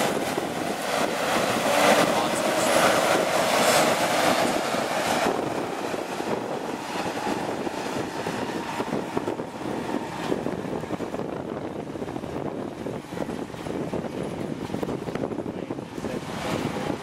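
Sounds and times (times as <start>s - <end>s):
tractor and grain cart running: 0.0s - 17.0s.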